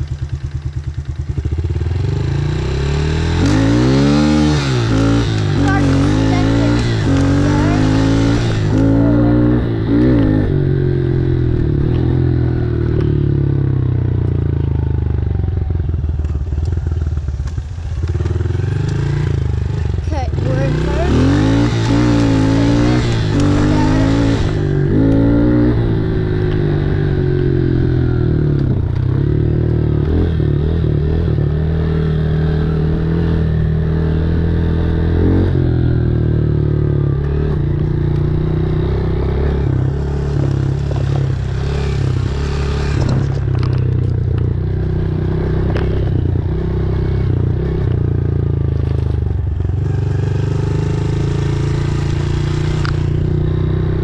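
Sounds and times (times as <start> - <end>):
dirt bike engine revving: 0.0 - 14.0, 17.8 - 54.0.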